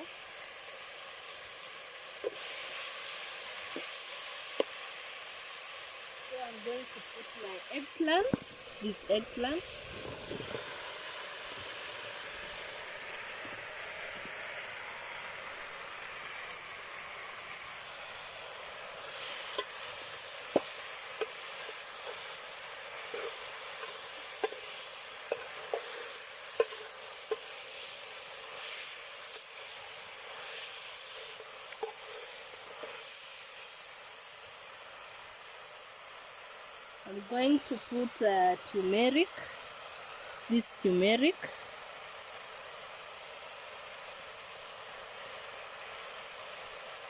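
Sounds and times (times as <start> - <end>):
vegetables sizzling in a pot: 0.0 - 47.0.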